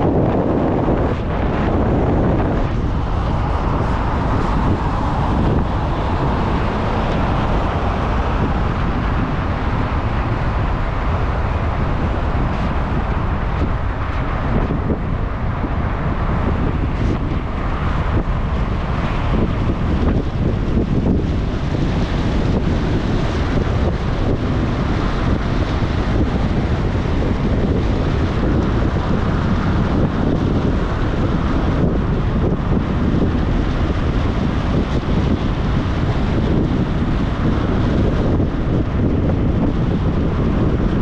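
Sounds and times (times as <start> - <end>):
moving vehicle rumble: 0.0 - 41.0
wind buffeting microphone: 0.0 - 41.0.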